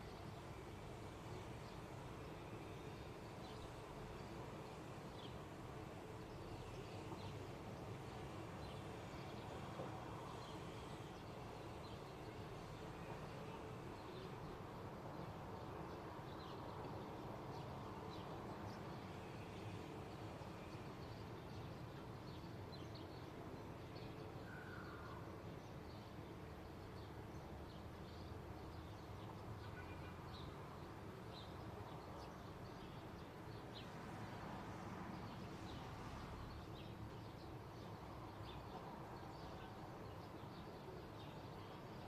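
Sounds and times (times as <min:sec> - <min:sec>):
low outdoor background hum: 0:00.0 - 0:42.0.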